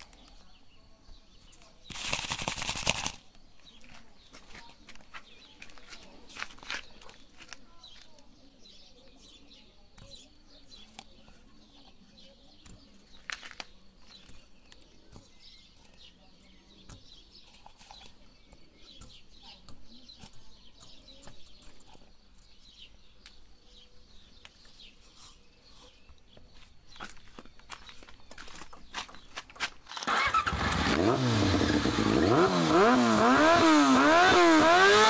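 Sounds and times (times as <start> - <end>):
birds calling: 0.0 - 35.0.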